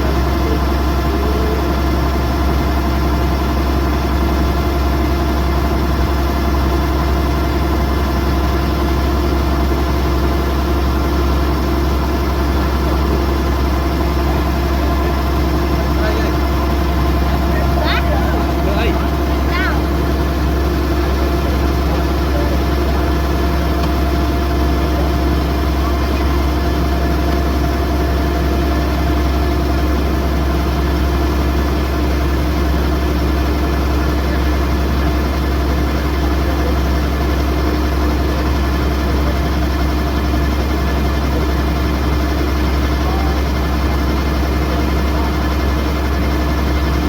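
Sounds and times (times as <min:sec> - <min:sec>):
combine harvester engine drone: 0:00.0 - 0:47.0.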